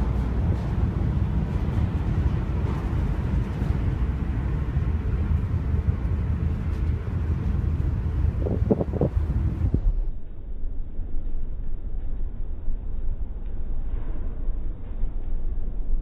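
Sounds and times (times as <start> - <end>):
boat engine rumble: 0.0 - 16.0.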